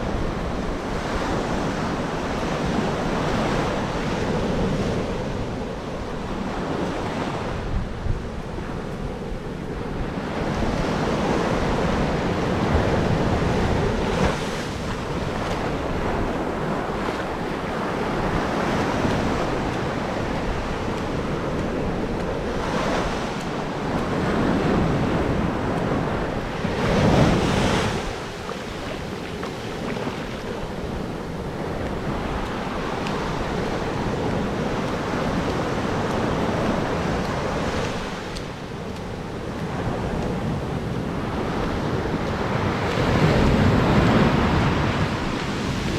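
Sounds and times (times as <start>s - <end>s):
ocean surf breaking on beach: 0.0s - 45.9s
wind buffeting microphone: 0.0s - 45.9s.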